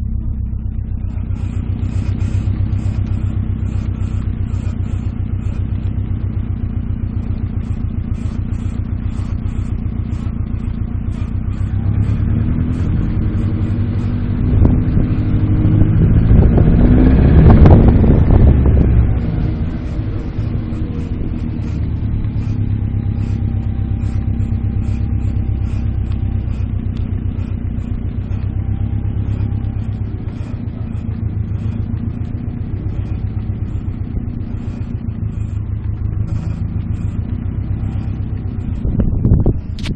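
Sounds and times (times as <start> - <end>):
car engine pulsing rumble: 0.0 - 39.9.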